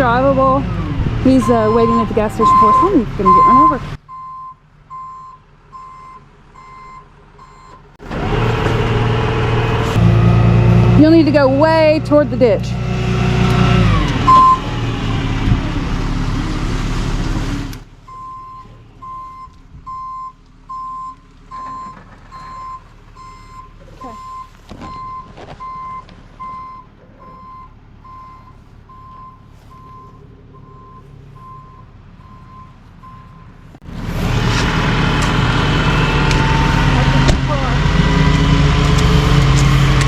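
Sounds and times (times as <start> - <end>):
truck reversing alarm beeps: 0.0 - 10.5, 13.2 - 15.3, 18.1 - 33.6, 34.5 - 40.0
truck engine rumbling: 0.0 - 40.0.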